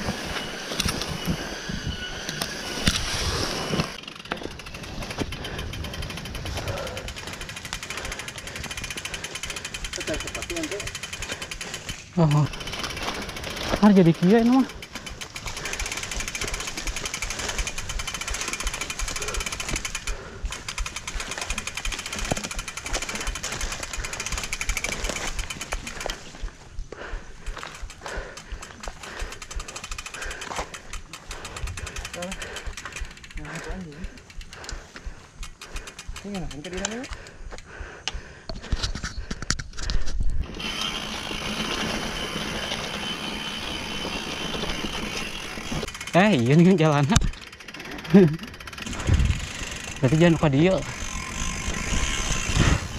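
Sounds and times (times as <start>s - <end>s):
mountain bike rattling over trail: 0.0s - 52.9s.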